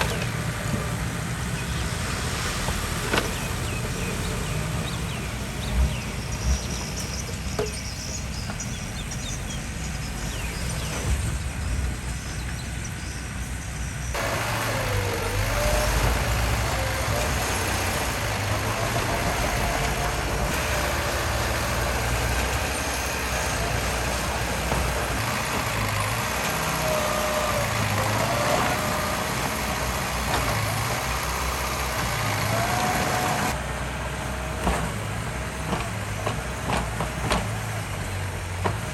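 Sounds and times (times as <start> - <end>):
heavy machinery diesel engines: 0.0 - 38.9.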